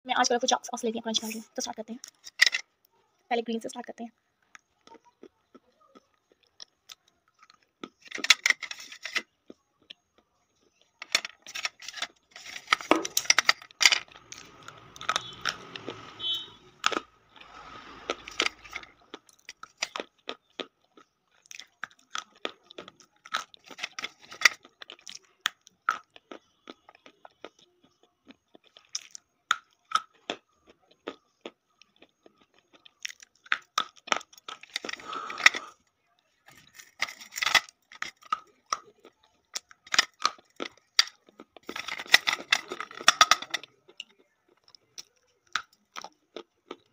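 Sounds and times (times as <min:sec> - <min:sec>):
chalk crunching and chewing: 0:04.4 - 0:46.9.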